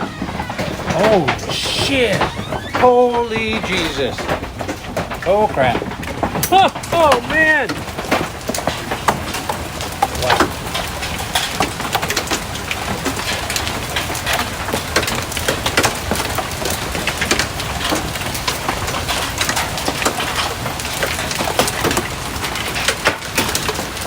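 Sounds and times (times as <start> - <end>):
hail clattering on house: 0.0 - 24.0.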